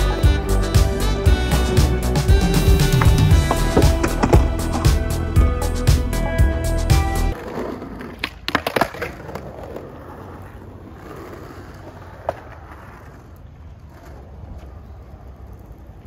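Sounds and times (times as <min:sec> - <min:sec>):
skateboard clacks: 0:00.0 - 0:06.2, 0:07.3 - 0:16.0
skateboard wheels rolling on concrete: 0:00.0 - 0:16.0.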